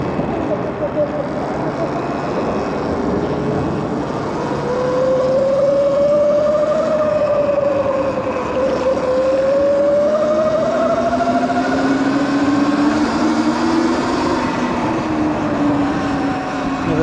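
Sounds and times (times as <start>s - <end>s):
lower engine note: 0.0s - 17.0s
pit bike engines revving: 0.0s - 17.0s.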